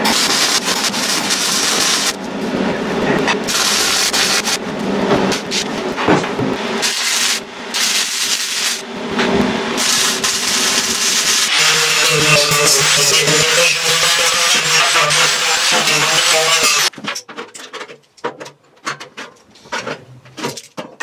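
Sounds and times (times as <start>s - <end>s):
welding arc crackling: 0.0s - 16.9s.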